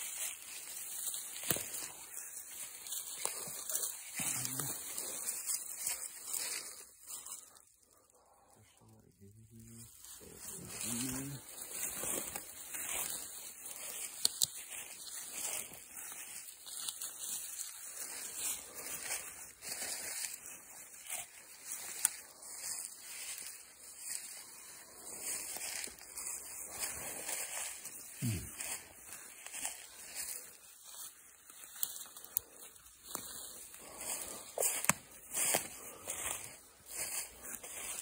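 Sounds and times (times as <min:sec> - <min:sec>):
footsteps crunching through dry leaves: 0:00.0 - 0:38.0.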